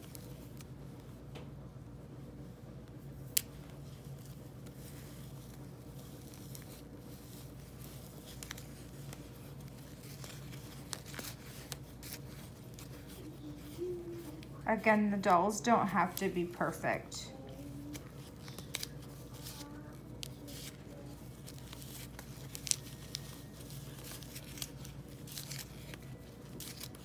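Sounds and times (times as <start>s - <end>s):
low steady hum: 0.0s - 27.0s
thread handling rustles: 2.9s - 27.0s.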